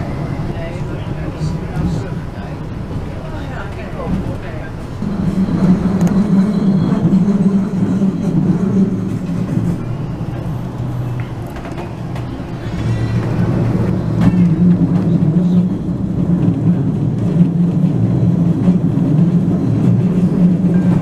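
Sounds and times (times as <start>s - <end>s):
train low hum: 0.0s - 21.0s
wheels rumbling on track: 0.0s - 21.0s.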